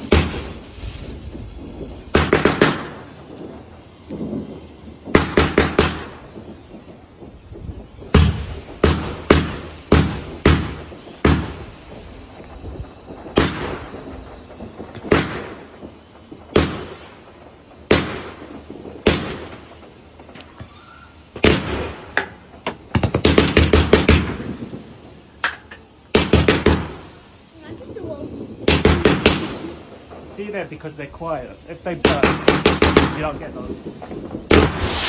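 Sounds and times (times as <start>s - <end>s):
fireworks banging: 0.0s - 35.0s.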